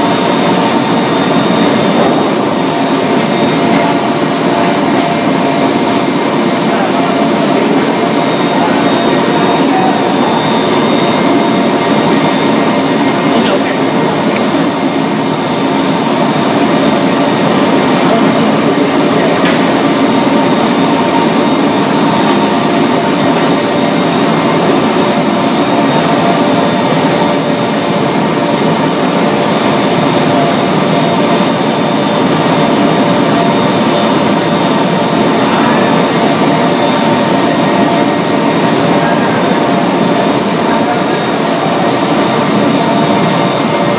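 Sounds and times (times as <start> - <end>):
high whine: 0.0 - 43.9
lamination machine whirring: 0.0 - 43.9.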